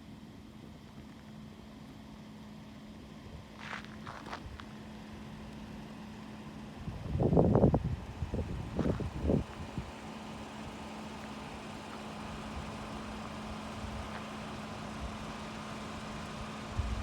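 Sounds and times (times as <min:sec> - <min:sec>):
vehicle engine and road hum: 0:00.0 - 0:17.0.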